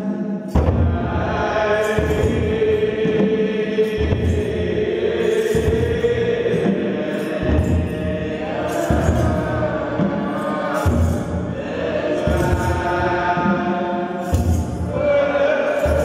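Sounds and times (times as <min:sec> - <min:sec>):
clergy chanting together: 0:00.0 - 0:16.0.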